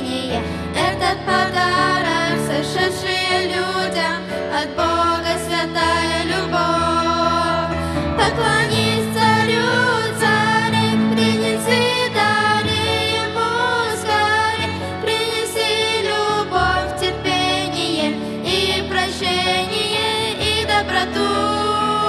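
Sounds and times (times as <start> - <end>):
woman and girls singing a hymn: 0.0 - 22.0
sustained instrumental accompaniment: 0.4 - 22.0.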